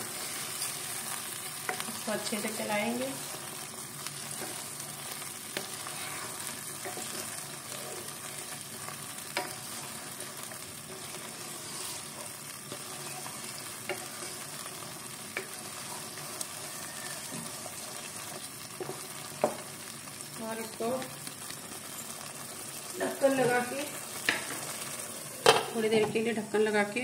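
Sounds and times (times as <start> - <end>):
food sizzling in pan: 0.0 - 27.0.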